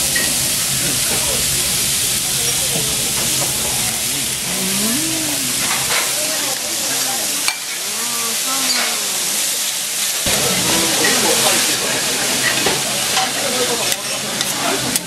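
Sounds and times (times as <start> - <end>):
beef sizzling on a griddle: 0.0 - 15.0.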